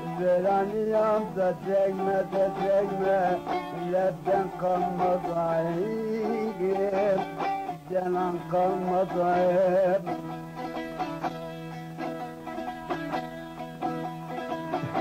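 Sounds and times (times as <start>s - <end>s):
plucked lute playing folk music: 0.0s - 15.0s.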